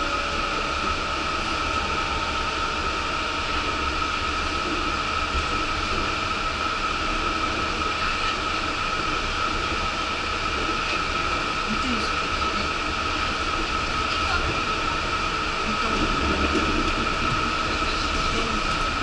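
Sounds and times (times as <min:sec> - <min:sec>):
constant high whine: 0:00.0 - 0:19.0
train running noise: 0:00.0 - 0:19.0.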